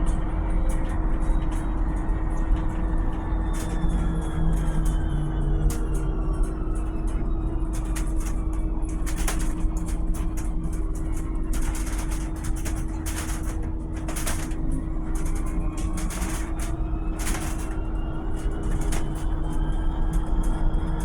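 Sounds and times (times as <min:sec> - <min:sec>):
electric bus low rumble: 0:00.0 - 0:21.0
rattles and clicks: 0:00.0 - 0:21.0
steady whining tone: 0:00.0 - 0:21.0.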